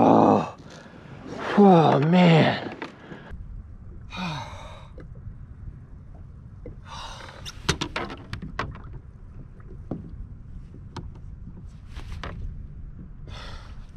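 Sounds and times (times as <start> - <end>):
wind and water rumble: 0.0 - 13.9.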